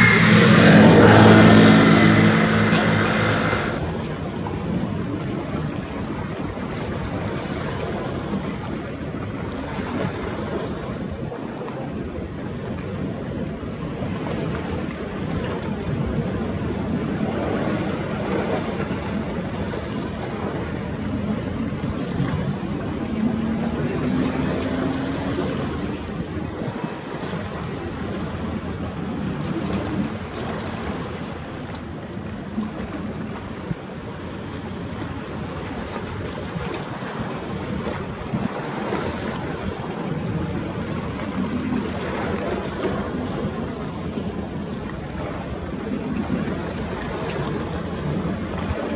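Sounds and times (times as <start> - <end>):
sea waves washing in: 0.0 - 48.9
wind on microphone: 0.0 - 48.9.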